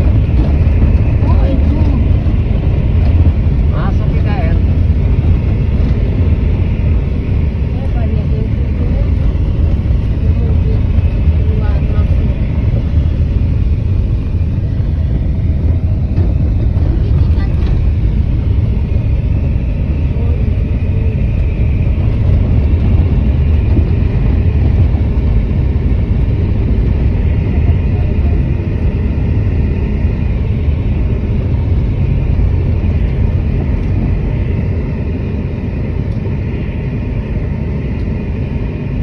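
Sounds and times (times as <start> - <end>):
car engine rumble: 0.0 - 39.0.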